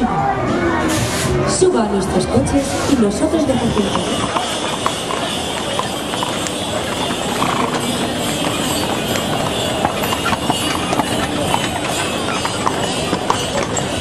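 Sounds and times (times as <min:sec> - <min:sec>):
murmur of crowd voices: 0:00.0 - 0:14.0
horse hooves on sandy ground: 0:02.6 - 0:14.0.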